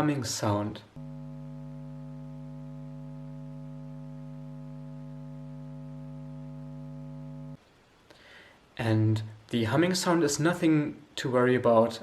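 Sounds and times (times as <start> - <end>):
space heater electrical hum: 0.0 - 10.8.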